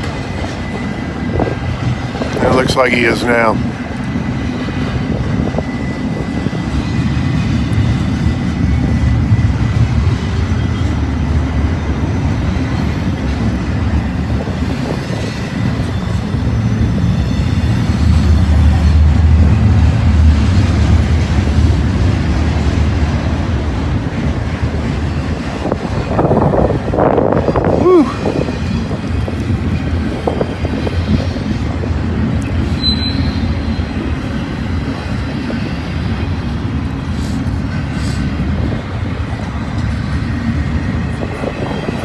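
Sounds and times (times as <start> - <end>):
freight train rumbling past: 0.0 - 42.0.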